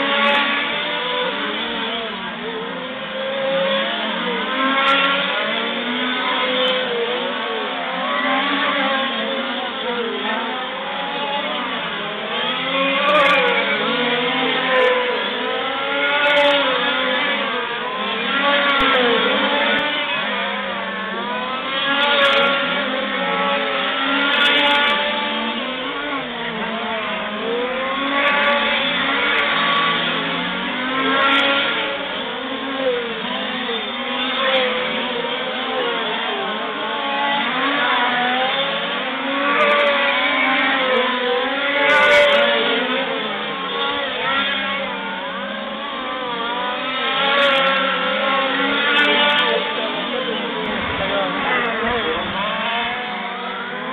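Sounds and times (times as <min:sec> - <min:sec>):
small two-stroke engines buzzing: 0:00.0 - 0:53.9.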